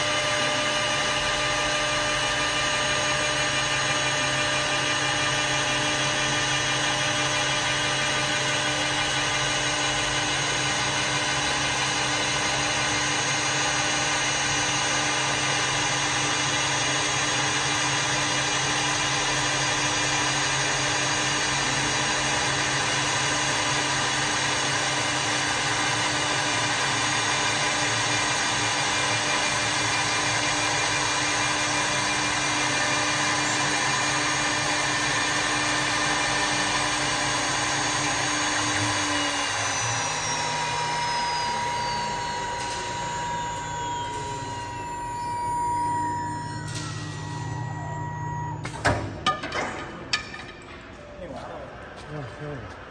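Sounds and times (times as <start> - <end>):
wood lathe cutting: 0.0 - 48.0
machine whine: 0.0 - 52.9.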